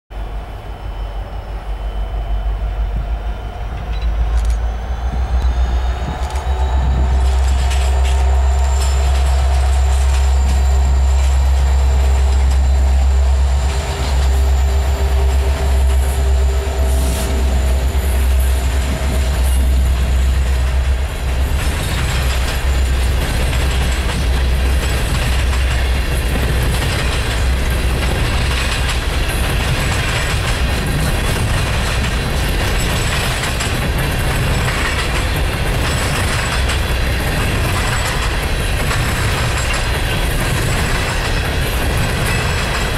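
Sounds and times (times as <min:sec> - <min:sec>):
locomotive engine rumble: 0:00.1 - 0:42.9
locomotive whine: 0:00.1 - 0:42.9
train wheels clattering on rails: 0:00.3 - 0:42.9.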